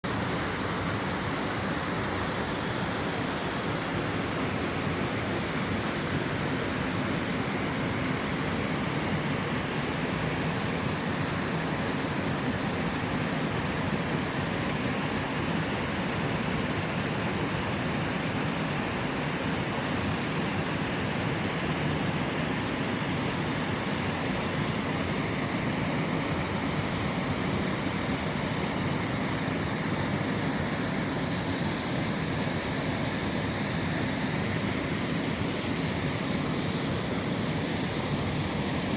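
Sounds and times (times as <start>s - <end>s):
waterfall rushing: 0.1s - 38.9s.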